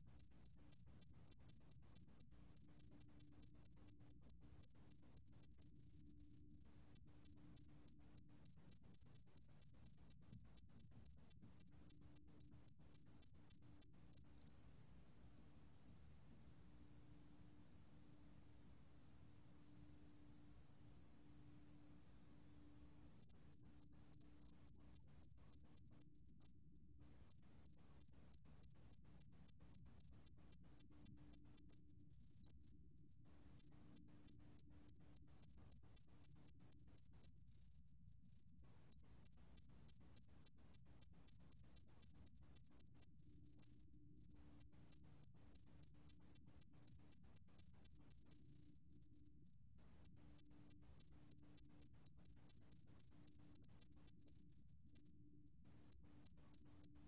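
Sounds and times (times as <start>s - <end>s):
cricket trilling: 0.0s - 14.5s, 23.2s - 57.0s.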